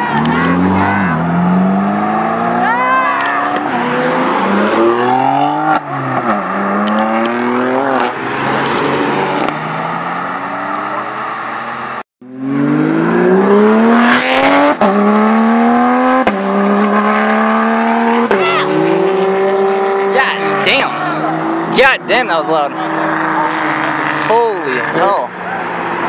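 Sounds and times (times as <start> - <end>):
car engines accelerating hard: 0.0 - 26.0.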